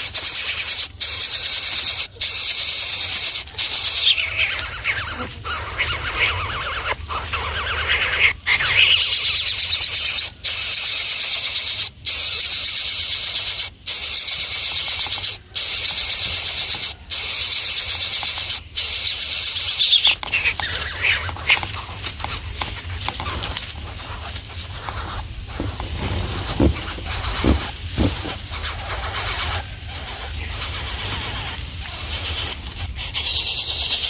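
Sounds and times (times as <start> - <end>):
nestling birds screeching: 0.0 - 34.0.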